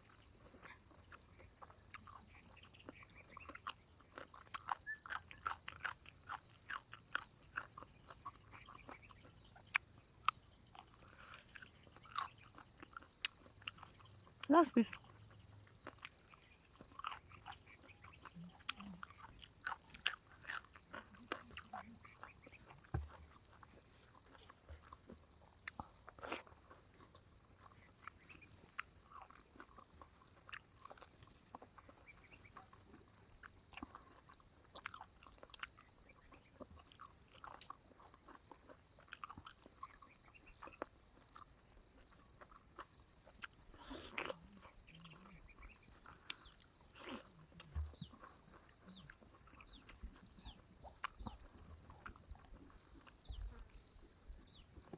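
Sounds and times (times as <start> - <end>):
chewing and mouth sounds: 0.1 - 54.9.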